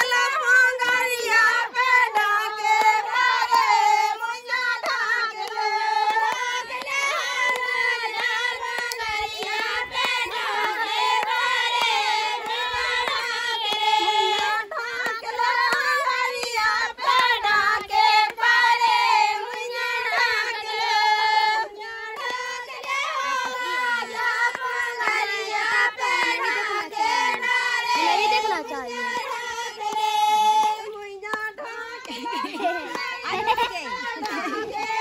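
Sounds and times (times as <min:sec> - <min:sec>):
hands clapping: 0:00.0 - 0:35.0
women singing folk song: 0:00.0 - 0:35.0.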